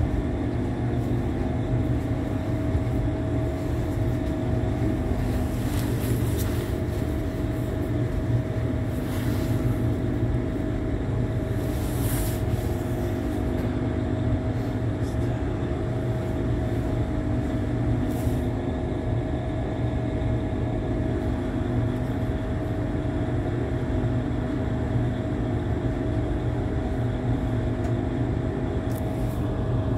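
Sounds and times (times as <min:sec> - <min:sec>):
train rumbling inside carriage: 0:00.0 - 0:29.9.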